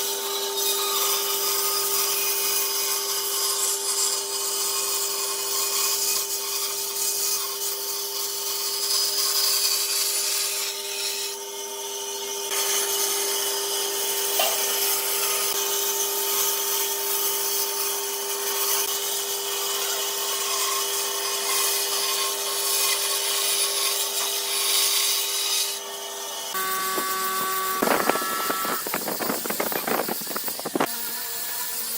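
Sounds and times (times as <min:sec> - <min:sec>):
power tool working wood: 0:00.0 - 0:31.9.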